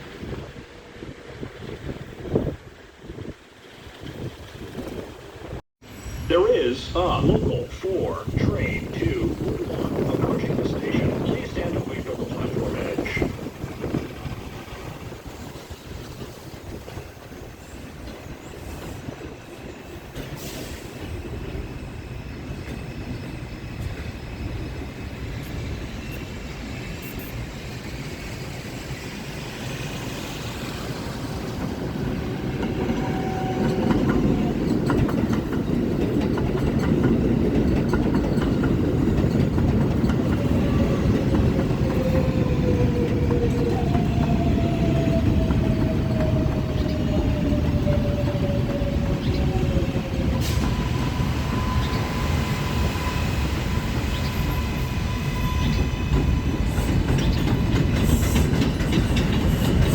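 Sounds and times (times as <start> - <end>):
subway train rumbling on rails: 0.0 - 59.9.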